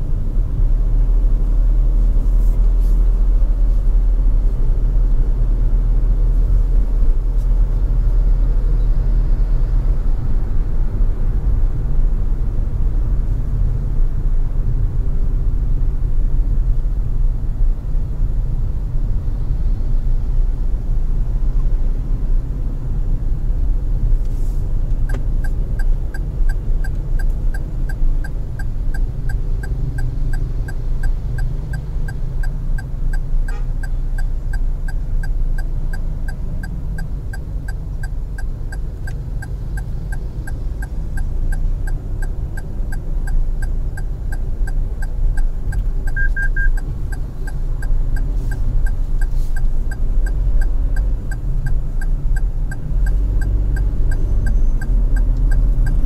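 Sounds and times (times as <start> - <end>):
car driving rumble: 0.0 - 56.0
turn signal ticking: 0.0 - 56.0.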